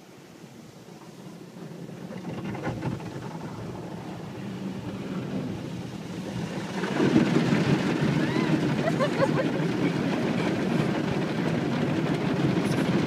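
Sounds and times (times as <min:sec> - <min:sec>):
car wash spraying water: 0:00.0 - 0:13.0.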